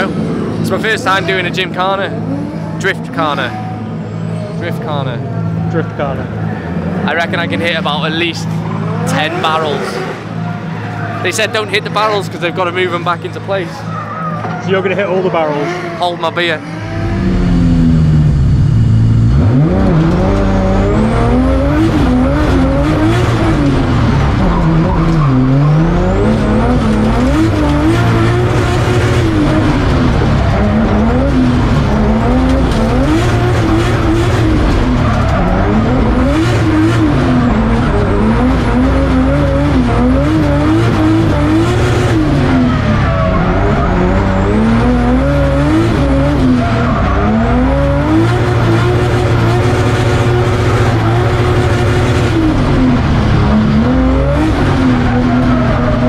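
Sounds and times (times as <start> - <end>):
car engine revving: 0.0 - 56.0
tyres skidding: 0.0 - 56.0.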